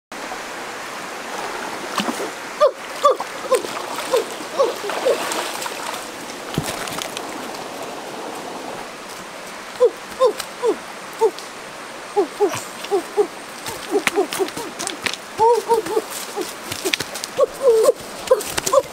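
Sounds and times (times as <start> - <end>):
rocky stream running: 0.1 - 18.9
water splashing: 0.2 - 18.9.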